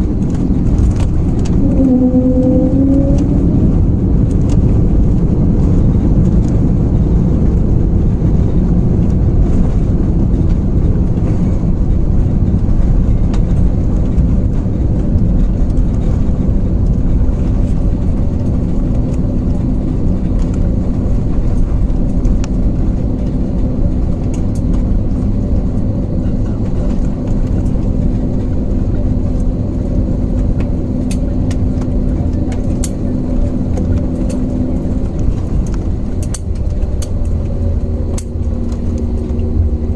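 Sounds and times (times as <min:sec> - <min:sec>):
airliner engines and airflow rumble: 0:00.0 - 0:39.9
steady hum: 0:00.0 - 0:39.9.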